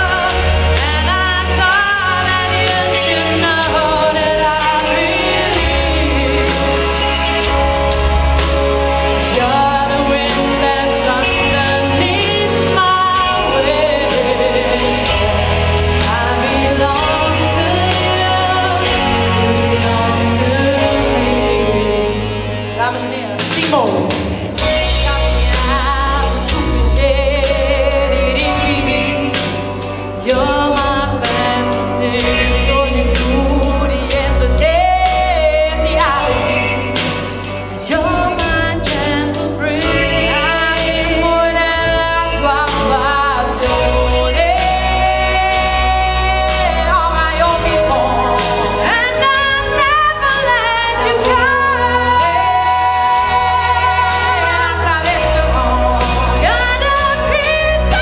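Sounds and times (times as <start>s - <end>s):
band with heavy bass line: 0.0s - 58.0s
woman and man singing: 0.0s - 58.0s.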